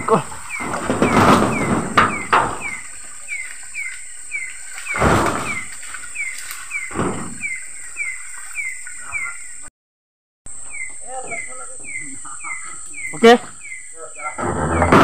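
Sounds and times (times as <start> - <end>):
high insect whine: 0.0 - 9.7, 10.5 - 15.0.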